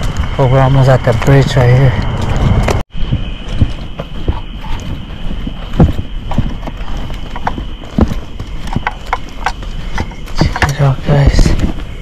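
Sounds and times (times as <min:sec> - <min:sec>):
footsteps on road: 0:00.0 - 0:12.0.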